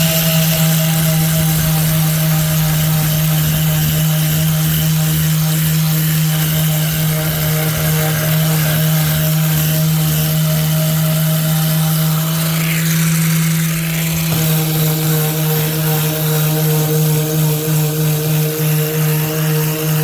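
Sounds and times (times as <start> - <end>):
power sander running: 0.0 - 20.0.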